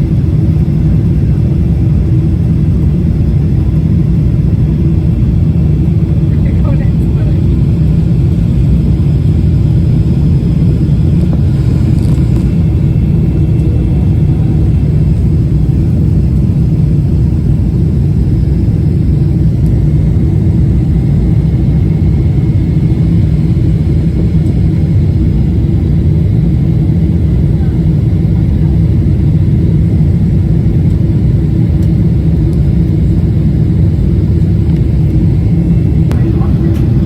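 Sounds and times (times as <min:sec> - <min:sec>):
jet airliner cabin rumble: 0:00.0 - 0:37.0.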